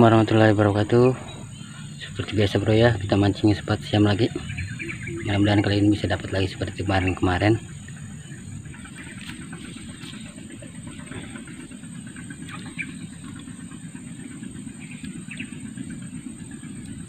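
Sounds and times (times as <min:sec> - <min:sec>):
low wind rumble: 0:00.0 - 0:17.0.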